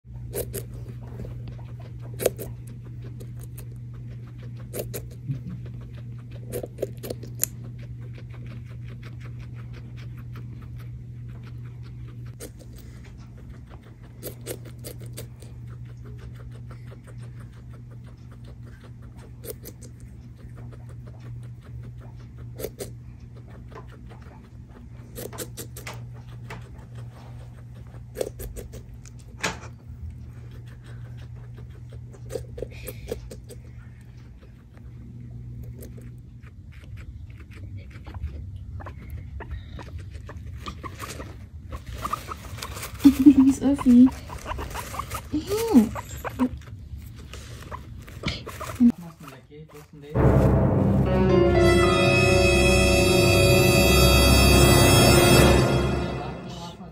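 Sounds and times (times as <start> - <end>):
guinea pig chewing: 0.1 - 50.2.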